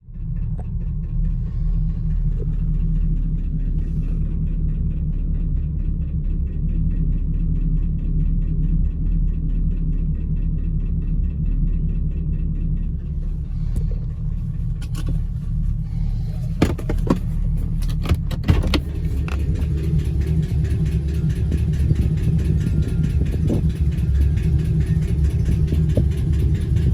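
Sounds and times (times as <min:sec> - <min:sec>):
car engine idling: 0:00.0 - 0:26.9
fast regular engine ticking: 0:00.0 - 0:26.9.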